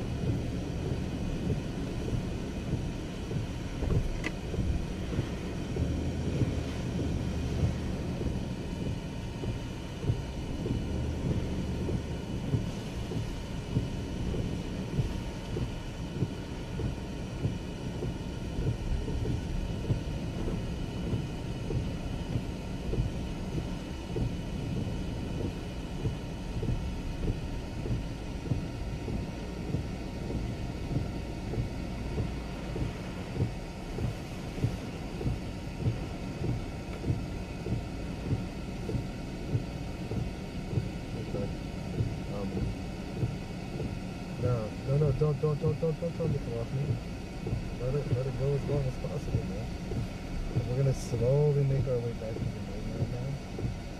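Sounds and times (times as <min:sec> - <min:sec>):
heavy rain on a car: 0:00.0 - 0:53.9
wind buffeting a car: 0:00.0 - 0:53.9.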